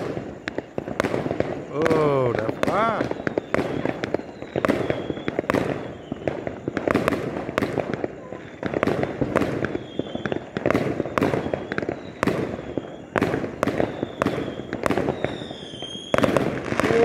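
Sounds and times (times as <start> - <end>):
firework whistle: 0.0 - 17.0
fireworks bangs: 0.0 - 17.0
fireworks crackling: 0.0 - 17.0.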